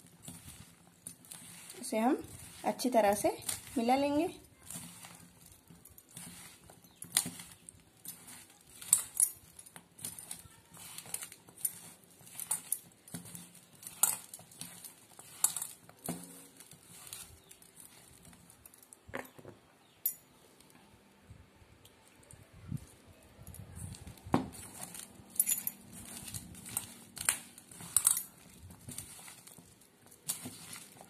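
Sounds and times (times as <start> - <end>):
hands rustling and squishing food: 0.0 - 19.1, 20.6 - 31.0.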